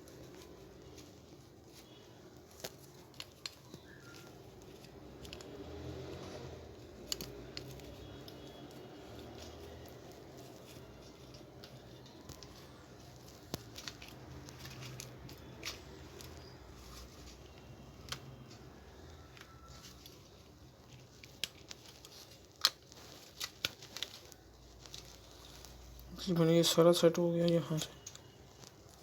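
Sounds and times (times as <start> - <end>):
plastic parts clicking and tapping: 1.0 - 25.8.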